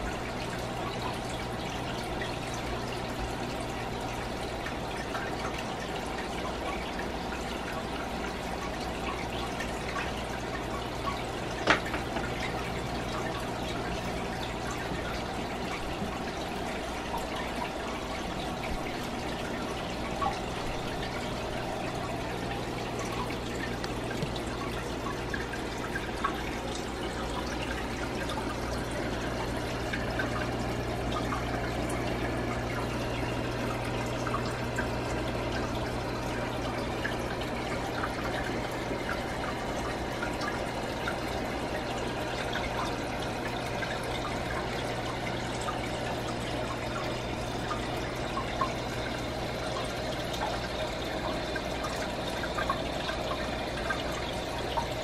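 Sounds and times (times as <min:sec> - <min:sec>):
aquarium water trickling: 0:00.0 - 0:55.0
low steady hum: 0:00.0 - 0:55.0.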